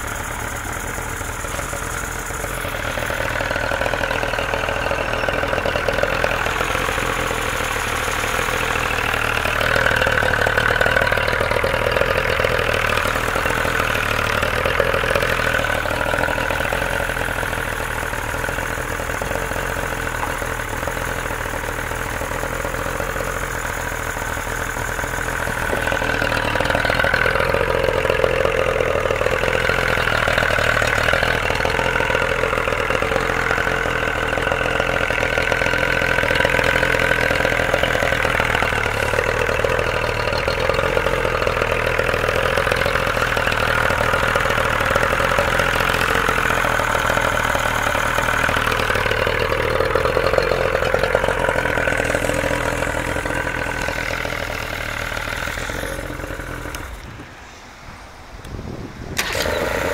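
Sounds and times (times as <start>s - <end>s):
outboard motor running: 0.0s - 57.4s, 58.4s - 59.9s.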